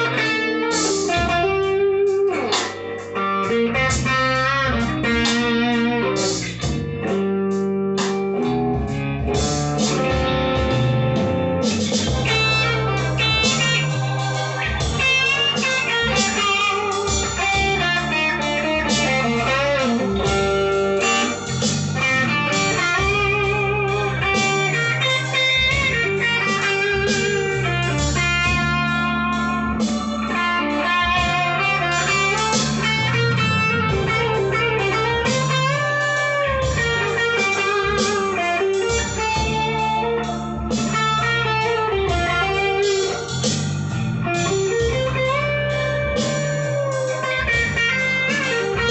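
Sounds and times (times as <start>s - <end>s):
electric guitar bluesy lead: 0.0s - 48.9s
low bass notes: 0.0s - 48.9s.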